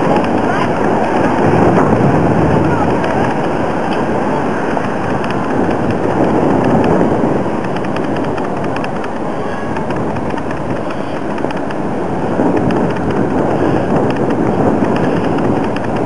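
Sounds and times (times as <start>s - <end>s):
loud rumble: 0.0s - 16.0s.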